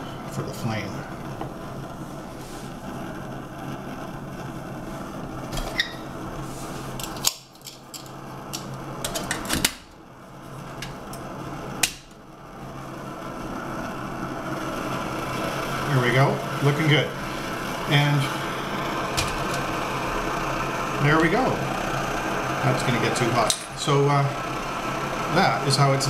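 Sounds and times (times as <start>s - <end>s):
gas stove burning: 0.0s - 26.0s.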